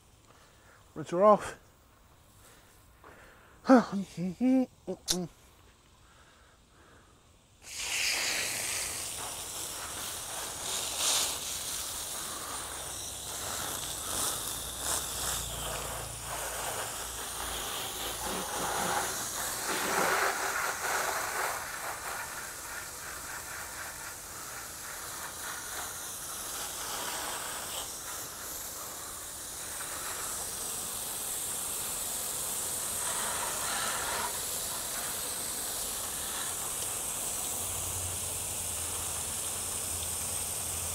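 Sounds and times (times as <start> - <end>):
hose spraying water: 3.7 - 5.3, 7.6 - 40.9.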